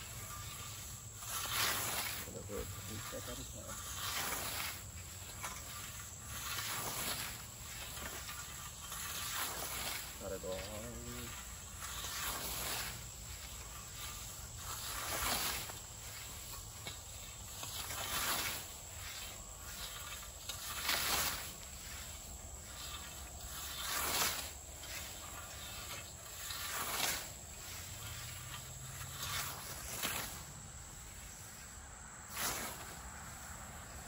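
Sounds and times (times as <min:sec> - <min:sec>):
scythes swishing through grass: 0:00.0 - 0:34.0.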